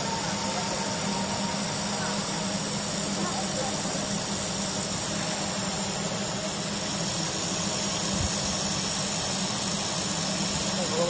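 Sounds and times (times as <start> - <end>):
constant high hiss: 0.0 - 11.0
welding machine hum: 0.0 - 11.0.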